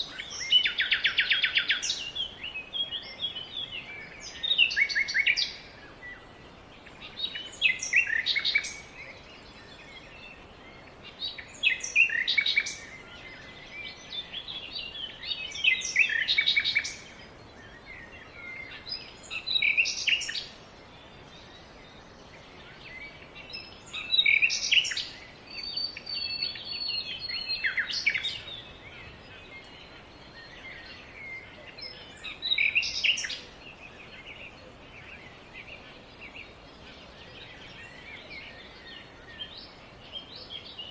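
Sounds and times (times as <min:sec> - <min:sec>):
songbird singing: 0:00.0 - 0:40.9
steady background hiss: 0:00.0 - 0:40.9.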